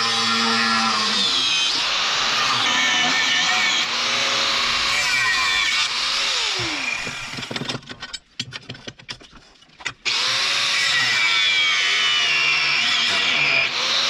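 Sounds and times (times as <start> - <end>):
angle grinder grinding steel: 0.0 - 7.6, 10.1 - 14.0.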